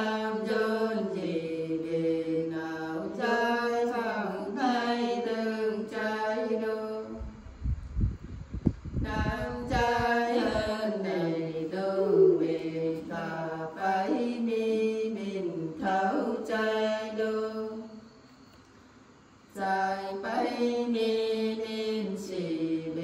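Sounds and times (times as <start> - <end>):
women singing unaccompanied: 0.0 - 7.4, 9.0 - 18.1, 19.5 - 23.0.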